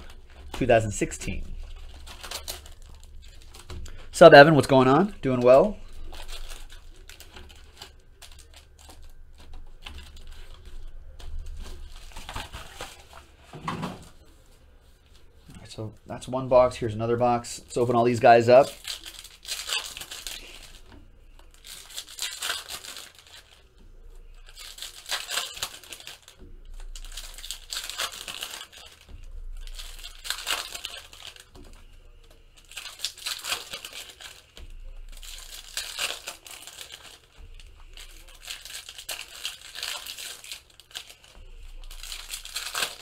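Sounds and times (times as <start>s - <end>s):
foil wrappers tearing and crinkling: 0.0s - 13.4s, 17.0s - 43.0s.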